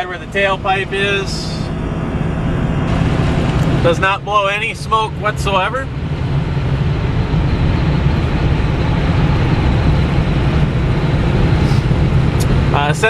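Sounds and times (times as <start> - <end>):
diesel engine drone: 0.0 - 13.0
road noise: 0.0 - 13.0.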